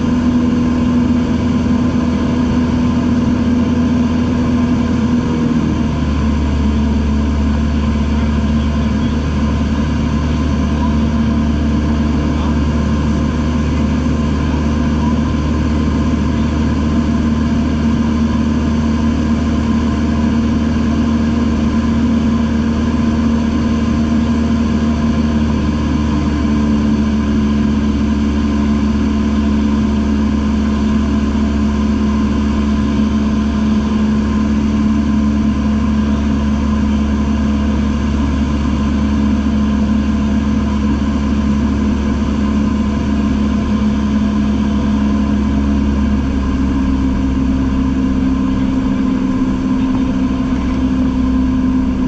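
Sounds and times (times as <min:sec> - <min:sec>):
airplane engine and propeller droning: 0:00.0 - 0:52.0.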